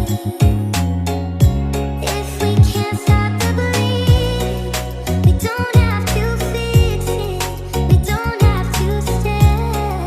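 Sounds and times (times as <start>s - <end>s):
song with bass and beat: 0.0s - 10.0s.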